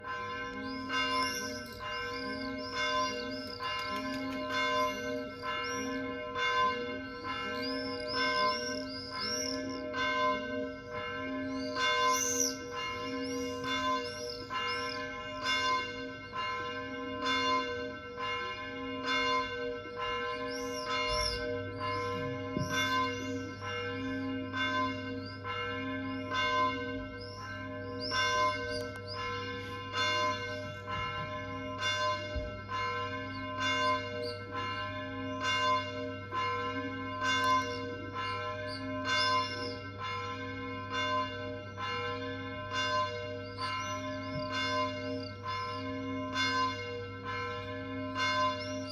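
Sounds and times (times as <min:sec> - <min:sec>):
church bell tolling: 0:00.0 - 0:48.9.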